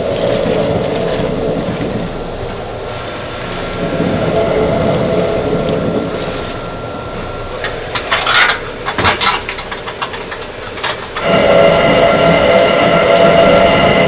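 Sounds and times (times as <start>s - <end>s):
mixer humming: 0.0s - 9.6s, 10.4s - 14.0s.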